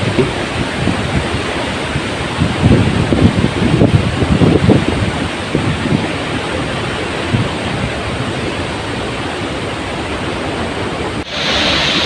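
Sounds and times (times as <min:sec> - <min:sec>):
wind buffeting microphone: 0:00.0 - 0:11.2
waterfall roaring: 0:00.0 - 0:12.0.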